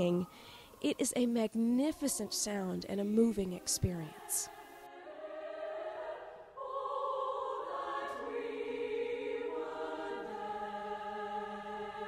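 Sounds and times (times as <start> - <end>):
women's choir singing held chords: 1.8 - 12.0.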